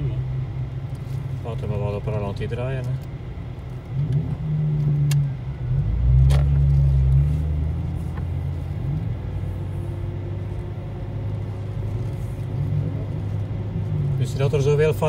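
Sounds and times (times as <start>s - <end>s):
car engine droning in cabin: 0.0s - 15.0s.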